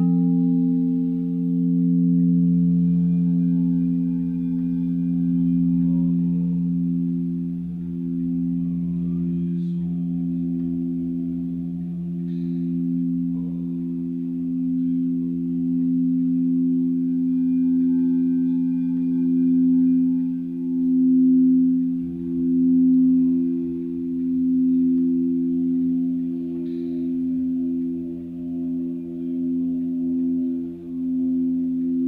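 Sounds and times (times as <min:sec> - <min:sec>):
singing bowls ringing: 0:00.0 - 0:32.0.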